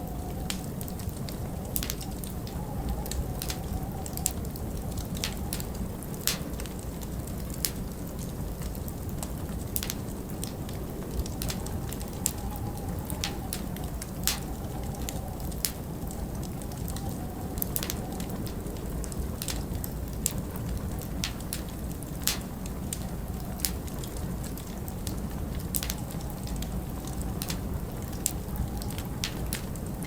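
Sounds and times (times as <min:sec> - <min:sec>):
wind howling: 0:00.0 - 0:30.0
wood fire crackling: 0:00.0 - 0:30.0.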